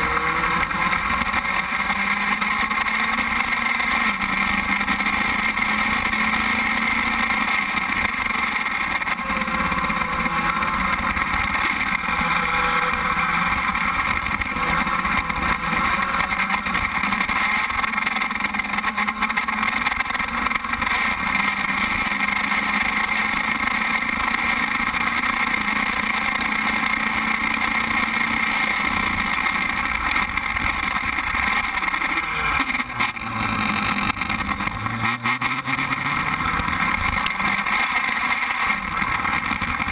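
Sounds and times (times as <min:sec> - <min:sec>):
race car engine idling: 0:00.1 - 0:39.9.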